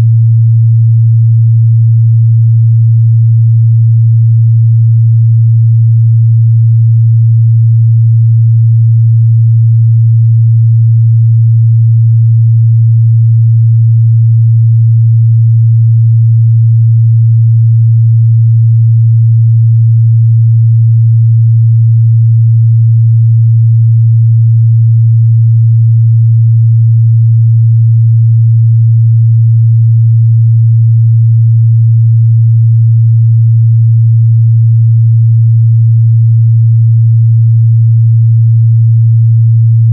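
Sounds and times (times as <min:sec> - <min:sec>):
low sine-wave test tone: 0:00.0 - 0:39.9.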